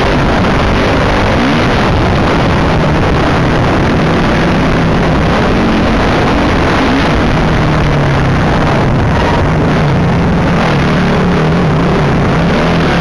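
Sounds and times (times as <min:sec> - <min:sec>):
motorbike engine revving: 0:00.0 - 0:13.0
wind rush: 0:00.0 - 0:13.0.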